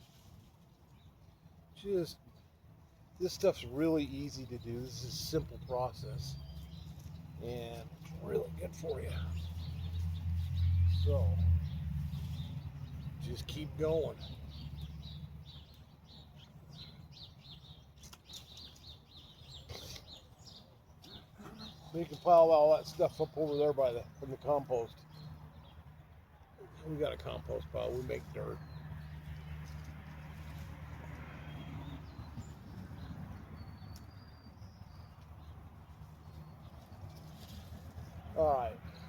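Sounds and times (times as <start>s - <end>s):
birds chirping: 0.9s - 39.0s.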